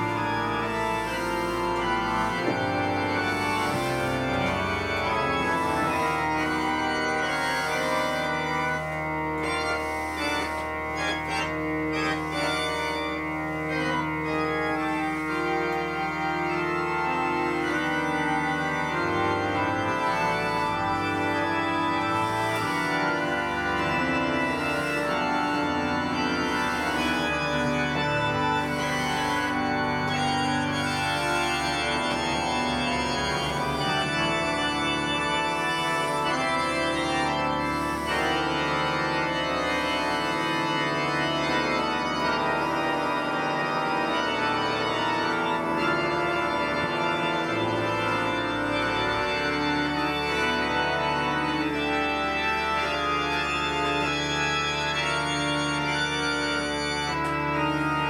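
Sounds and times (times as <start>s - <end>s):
organ playing sustained chords: 0.0s - 58.0s.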